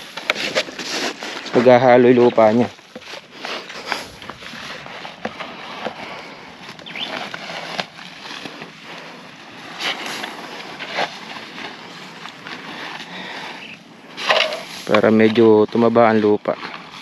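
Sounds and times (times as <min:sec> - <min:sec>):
footsteps on dry grass: 0:00.0 - 0:17.0
manure rustling and crunching: 0:00.0 - 0:17.0
steady hiss: 0:00.0 - 0:17.0.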